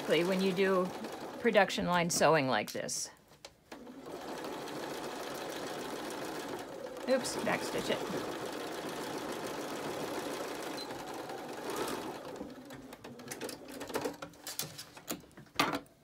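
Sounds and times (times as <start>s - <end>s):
sewing machine stitching: 0.0s - 2.2s, 3.7s - 14.6s.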